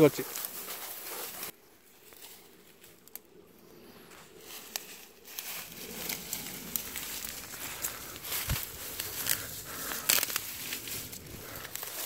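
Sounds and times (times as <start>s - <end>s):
dry grass rustling: 0.0s - 12.0s.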